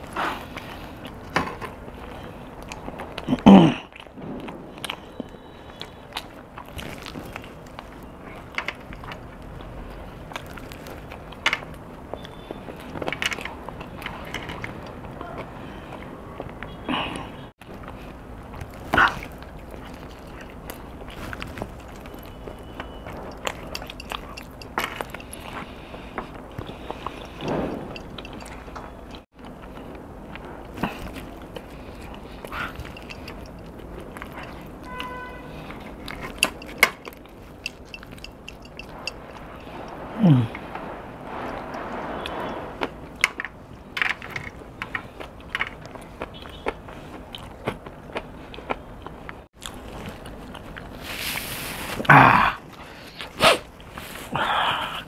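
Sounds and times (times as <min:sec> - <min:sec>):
pizza crust crunching: 0:00.0 - 0:16.8, 0:17.6 - 0:54.4
wet chewing mouth sounds: 0:00.0 - 0:43.9, 0:44.6 - 0:55.0.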